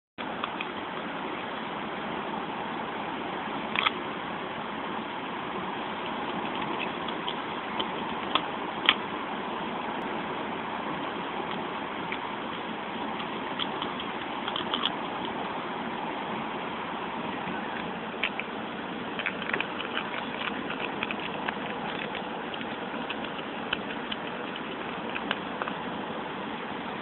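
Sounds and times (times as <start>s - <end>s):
steady background noise: 0.2s - 27.0s
rabbits nibbling leaves: 2.3s - 4.2s, 4.9s - 27.0s.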